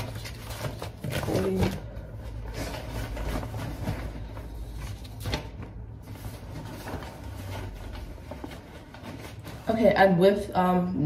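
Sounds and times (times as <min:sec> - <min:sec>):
paper rustling in backpack: 0:00.0 - 0:10.0.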